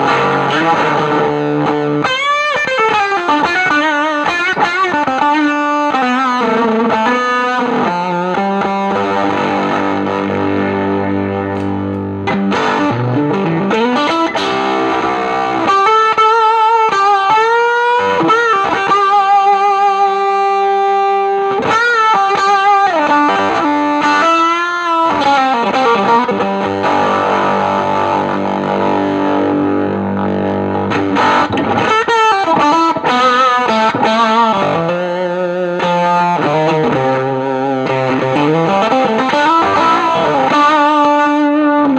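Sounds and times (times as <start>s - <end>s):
bent guitar lead notes with vibrato: 0.0s - 41.9s
fuzzed electric guitar chords: 0.0s - 41.9s.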